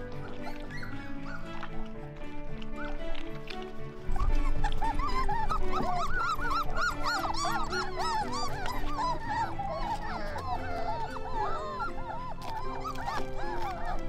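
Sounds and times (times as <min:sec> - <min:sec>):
background music: 0:00.0 - 0:14.0
puppies whining and yipping: 0:00.0 - 0:14.0.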